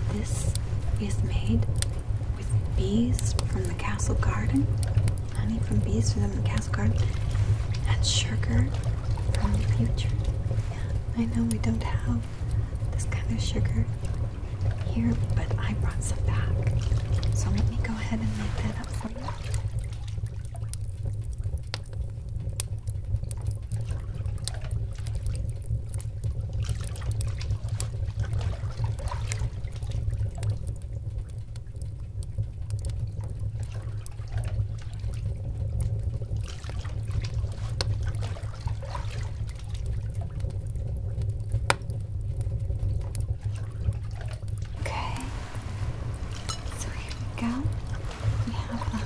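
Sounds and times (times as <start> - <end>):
small water drips: 0.0 - 49.0
steady low rumble: 0.0 - 49.0
water trickling and splashing: 0.0 - 49.0.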